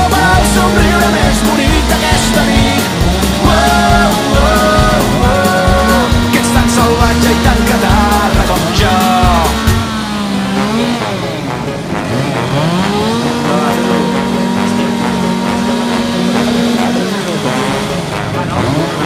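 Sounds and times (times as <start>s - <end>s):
chainsaw revving carving wood: 0.0s - 19.0s.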